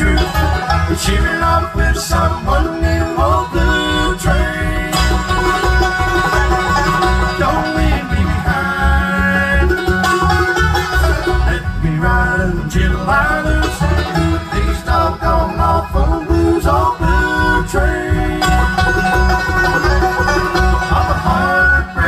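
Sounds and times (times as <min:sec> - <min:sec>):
acoustic guitar: 0:00.0 - 0:22.0
banjo: 0:00.0 - 0:22.0
bass beat: 0:00.0 - 0:22.0
fiddle: 0:00.0 - 0:22.0.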